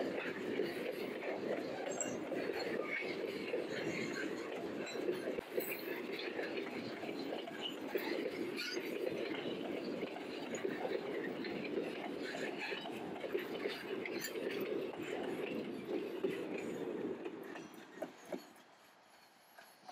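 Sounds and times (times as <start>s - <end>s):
freight train rolling past: 0.0s - 19.9s.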